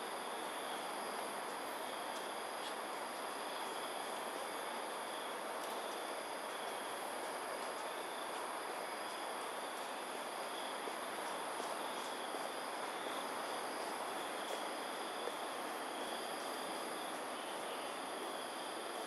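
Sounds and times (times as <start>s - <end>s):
insects chirring: 0.1s - 19.0s.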